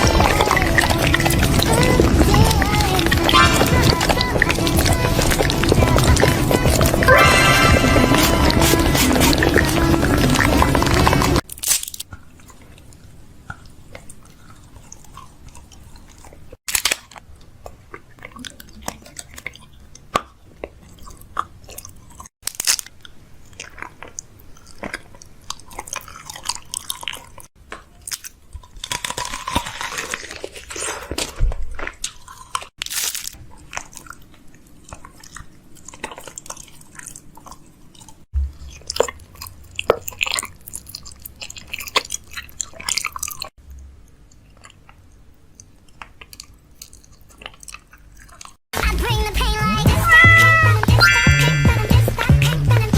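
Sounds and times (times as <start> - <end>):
crunchy chewing and biting: 0.0 - 48.6.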